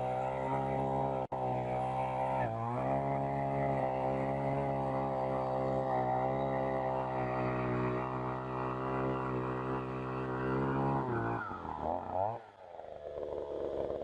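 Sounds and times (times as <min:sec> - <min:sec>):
earth auger engine running: 0:00.0 - 0:14.0.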